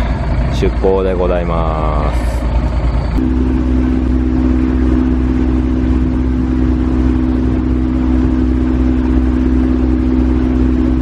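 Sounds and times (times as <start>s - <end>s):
boat engine droning: 0.0s - 11.0s
water rushing along hull: 0.0s - 11.0s.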